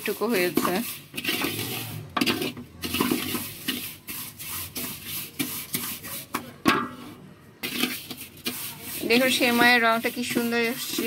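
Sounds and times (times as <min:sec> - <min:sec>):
wooden spatula scraping metal pot: 0:00.0 - 0:11.0.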